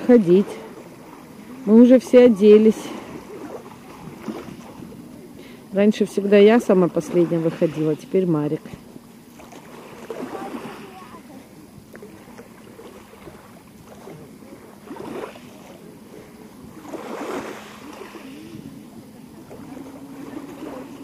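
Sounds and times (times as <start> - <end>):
faint low hum: 0.0 - 21.0
sea waves washing ashore: 0.0 - 21.0.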